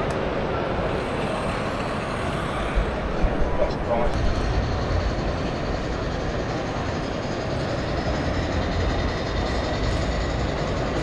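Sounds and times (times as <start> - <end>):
hubbub of busy hall: 0.0 - 11.0
model train running: 0.0 - 11.0.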